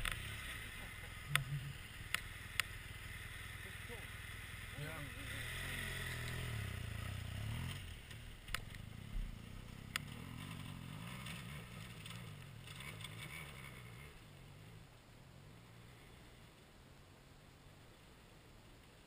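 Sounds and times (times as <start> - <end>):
motorcycle engine idling: 0.0 - 16.6.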